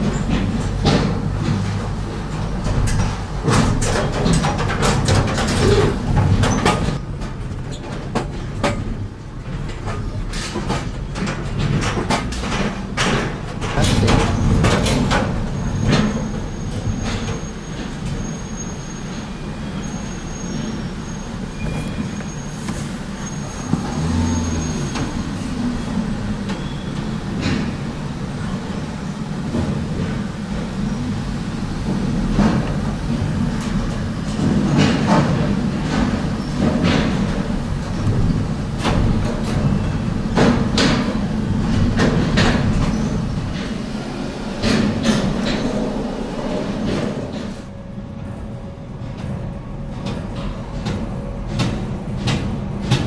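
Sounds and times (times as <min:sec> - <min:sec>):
car rolling low rumble: 0:00.0 - 0:53.0.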